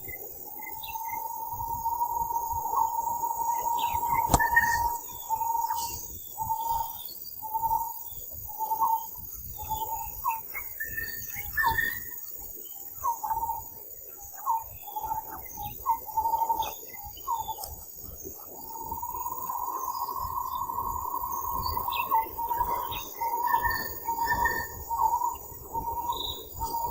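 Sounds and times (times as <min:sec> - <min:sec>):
insects chorus: 0:00.0 - 0:26.9.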